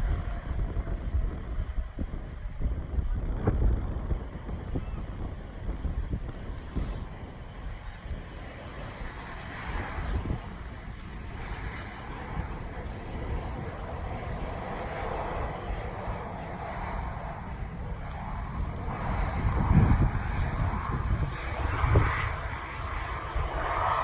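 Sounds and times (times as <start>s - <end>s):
airplane engine noise: 0.0s - 24.0s
wind buffeting the microphone: 0.0s - 24.0s.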